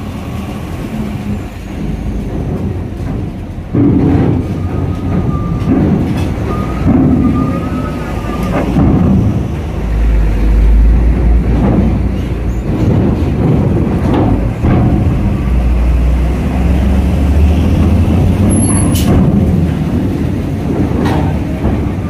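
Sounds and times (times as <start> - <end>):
diesel truck engines rumbling: 0.0 - 22.0
wheels clanking on ramp plates: 0.0 - 22.0.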